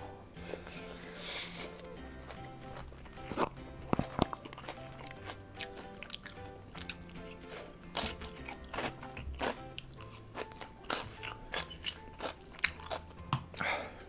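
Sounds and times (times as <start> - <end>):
crunching and chewing: 0.4 - 13.8.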